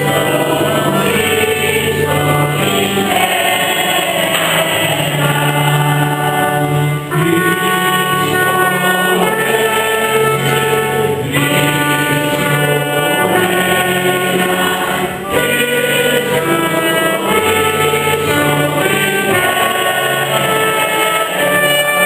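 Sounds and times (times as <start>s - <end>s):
church choir singing: 0.0s - 22.0s
instrumental accompaniment: 0.0s - 22.0s.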